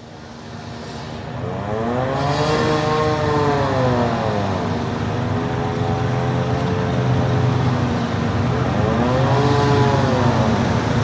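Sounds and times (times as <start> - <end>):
locomotive engine drone: 0.0 - 11.0
train rushing noise: 0.0 - 11.0.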